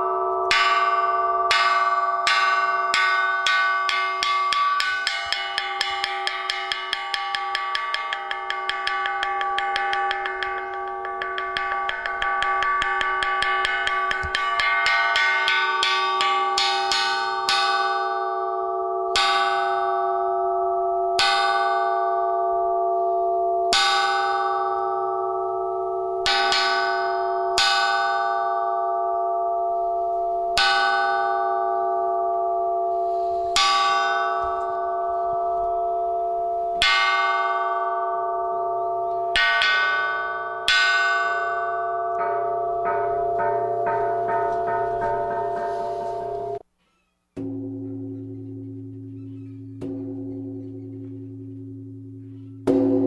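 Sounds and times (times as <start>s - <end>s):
metal percussion bell ringing: 0.0s - 46.6s.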